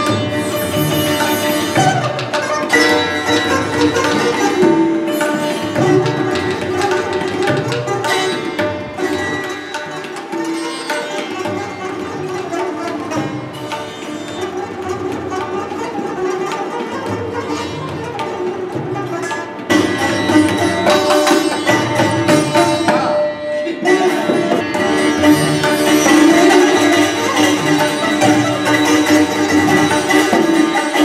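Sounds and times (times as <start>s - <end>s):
plucked sitar notes: 0.0s - 31.0s
tabla drum strokes: 0.0s - 31.0s.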